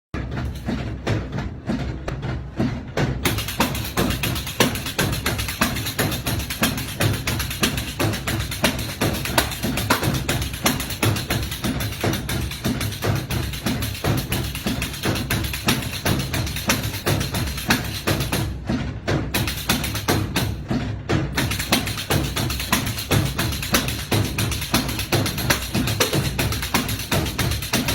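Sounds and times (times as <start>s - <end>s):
music with fast percussion beat: 0.2s - 1.5s, 2.1s - 27.9s.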